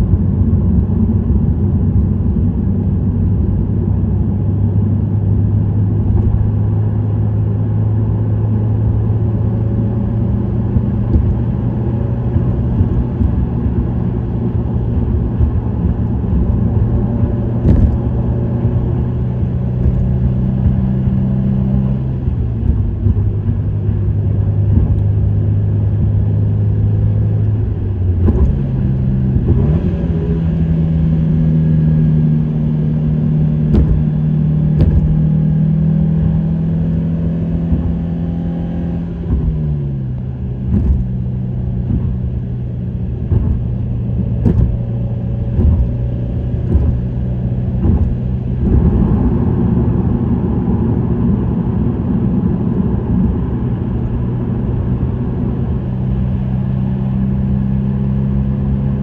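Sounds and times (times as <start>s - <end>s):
car engine cruising: 0.0s - 59.0s
road noise: 0.0s - 59.0s.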